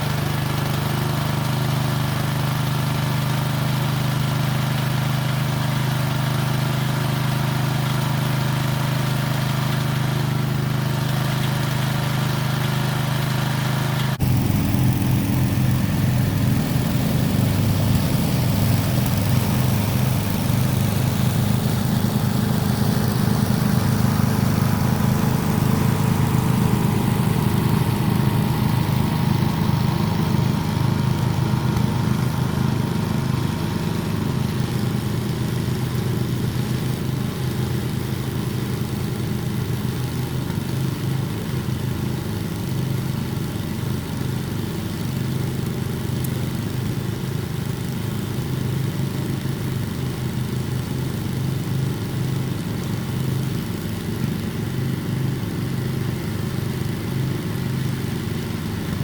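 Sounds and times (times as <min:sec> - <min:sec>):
garden tiller engine running: 0:00.0 - 0:59.0.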